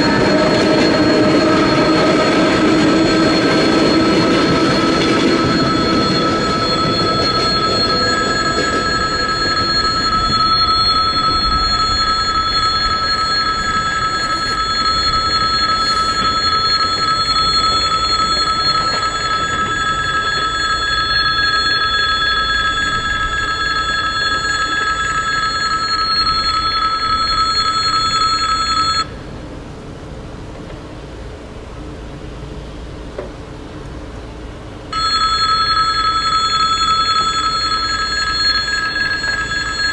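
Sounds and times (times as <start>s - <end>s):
level crossing bell ringing: 0.0s - 29.1s, 34.9s - 39.9s
electric train rumble: 0.0s - 39.9s.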